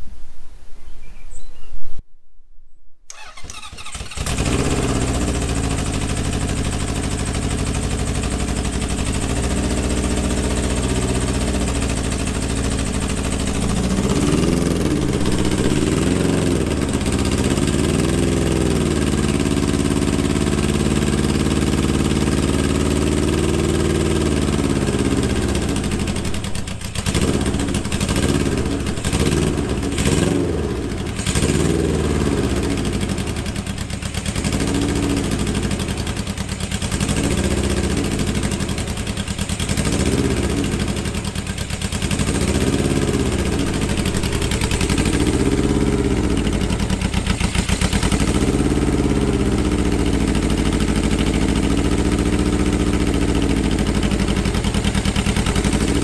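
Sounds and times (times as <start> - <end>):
motorcycle engine starting and revving: 3.1 - 56.0.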